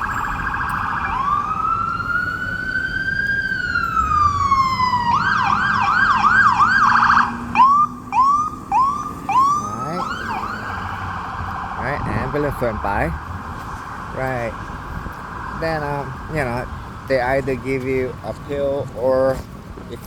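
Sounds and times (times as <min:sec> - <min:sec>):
ambulance siren passing: 0:00.0 - 0:17.2.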